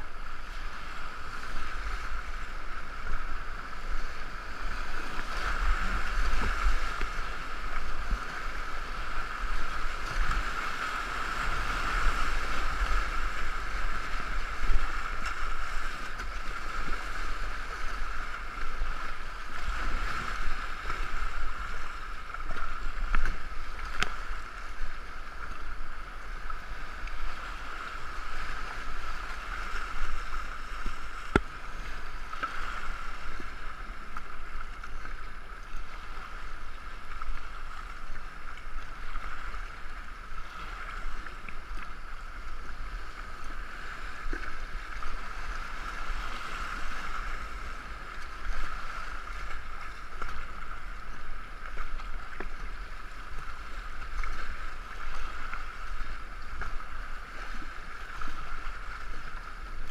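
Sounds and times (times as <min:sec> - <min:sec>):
paddle splashes: 0:00.0 - 0:59.9
rushing water: 0:00.0 - 0:59.9.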